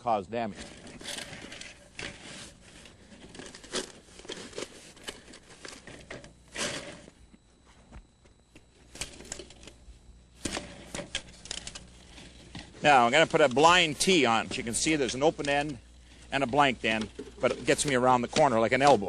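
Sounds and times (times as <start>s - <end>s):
plastic pipe crinkling and clicking: 0.5s - 19.0s.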